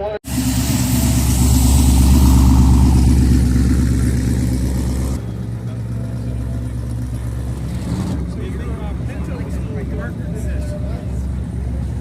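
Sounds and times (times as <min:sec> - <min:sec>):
car engine idling: 0:00.3 - 0:12.0.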